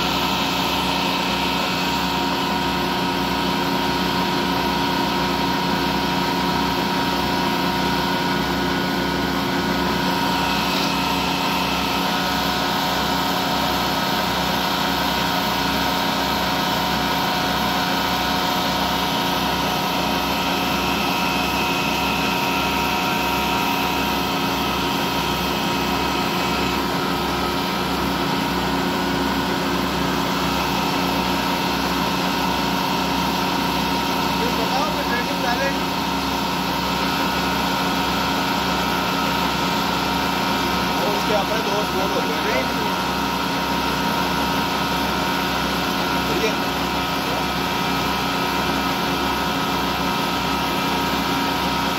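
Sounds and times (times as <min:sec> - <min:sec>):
high machine whine: 0:00.0 - 0:51.9
lathe machine hum: 0:00.0 - 0:51.9.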